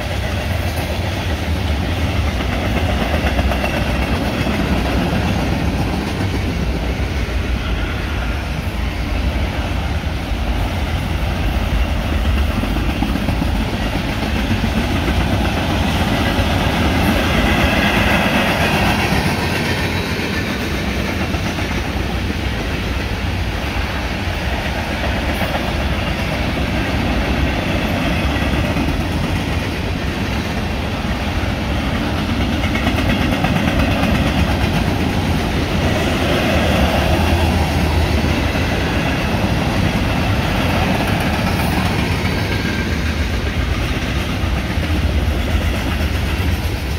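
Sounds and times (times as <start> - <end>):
freight train wheels on rails: 0.0 - 46.9.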